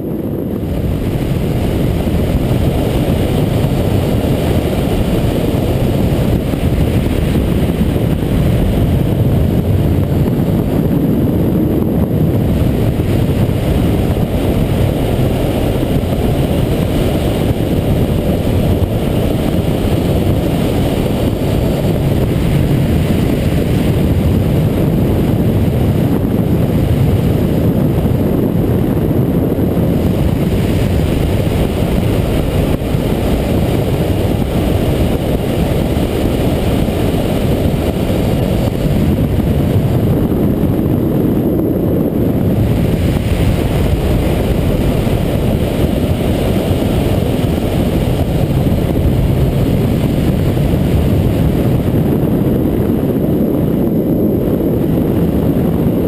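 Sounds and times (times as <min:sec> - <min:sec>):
motorcycle engine running: 0:00.0 - 0:56.0
road noise: 0:00.0 - 0:56.0
wind rushing: 0:00.0 - 0:56.0.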